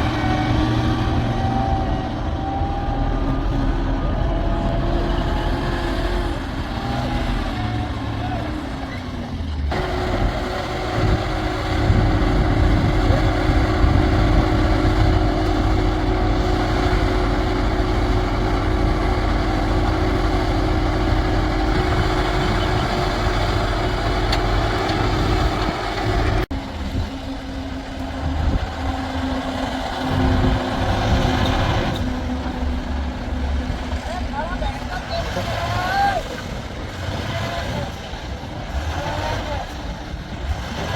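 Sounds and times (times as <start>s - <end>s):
heavy diesel engines running: 0.0s - 40.9s.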